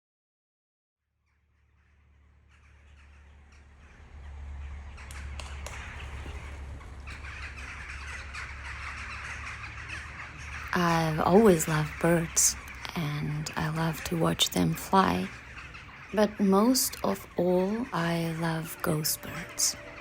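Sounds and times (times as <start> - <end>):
outdoor bird ambience: 1.0 - 20.0
crows cawing: 1.6 - 20.0
steady low hum: 1.6 - 20.0.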